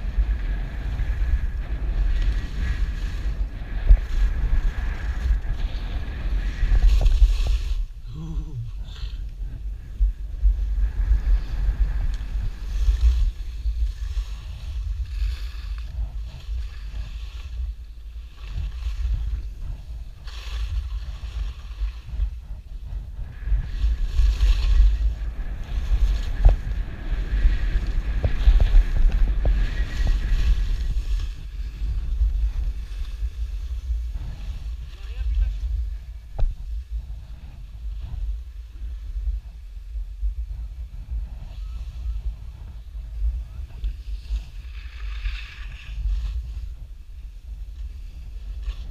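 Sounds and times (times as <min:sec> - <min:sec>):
skis scraping over snow: 0:00.0 - 0:08.0, 0:09.4 - 0:48.9
wind buffeting microphone: 0:00.0 - 0:48.9.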